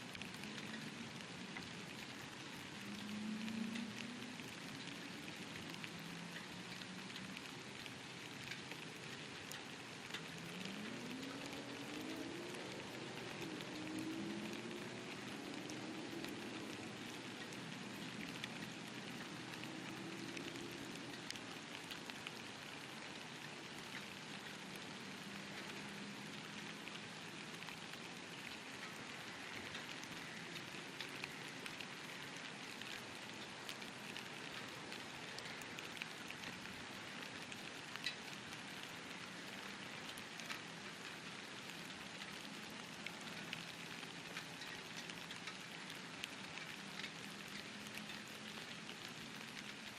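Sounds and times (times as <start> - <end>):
light rain falling: 0.0 - 49.9
raindrops ticking on surfaces: 0.0 - 49.9.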